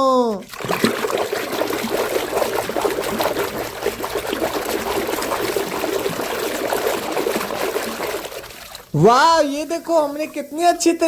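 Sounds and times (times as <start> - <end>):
water trickling and sloshing: 0.3 - 11.0.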